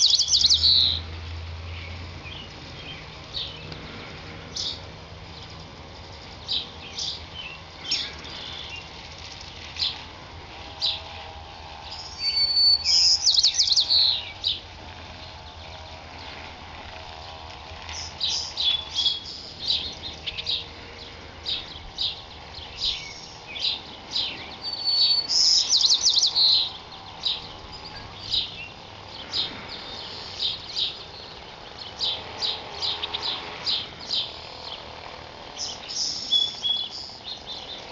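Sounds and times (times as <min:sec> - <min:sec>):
songbirds chirping: 0:00.0 - 0:37.9
trilled bird song: 0:00.0 - 0:37.9.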